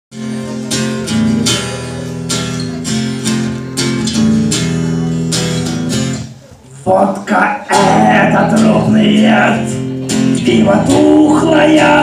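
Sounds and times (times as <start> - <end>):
guitar strumming chords: 0.1 - 6.4, 7.5 - 12.0.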